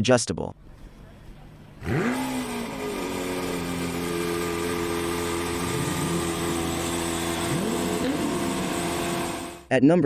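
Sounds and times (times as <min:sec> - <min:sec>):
car engine idling: 0:00.6 - 0:09.7.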